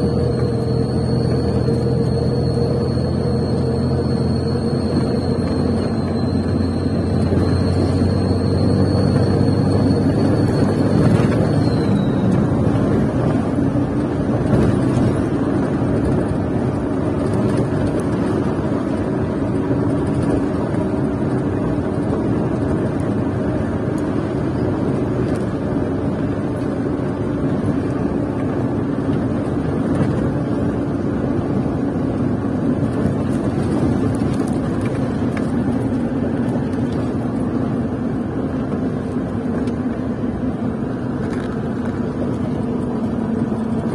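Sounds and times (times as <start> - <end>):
truck diesel engine cruising: 0.0 - 43.9
tyre and road noise: 0.0 - 43.9.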